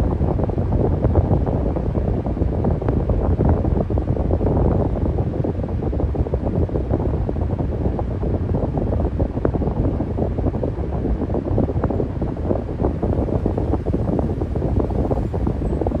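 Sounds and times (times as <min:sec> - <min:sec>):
fan running: 0:00.0 - 0:16.0.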